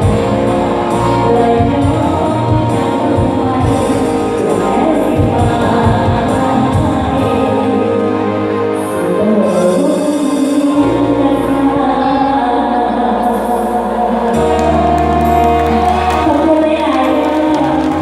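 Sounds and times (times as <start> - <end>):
live band with singing: 0.0 - 18.0
steady bass line: 0.0 - 18.0.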